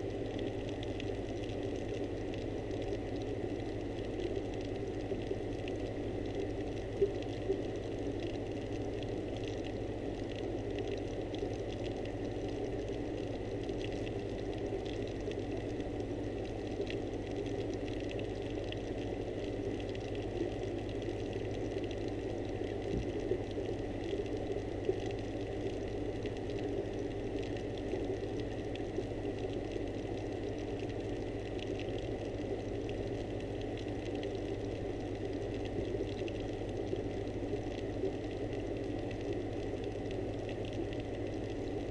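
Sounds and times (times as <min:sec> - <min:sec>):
pump humming underwater: 0:00.0 - 0:41.9.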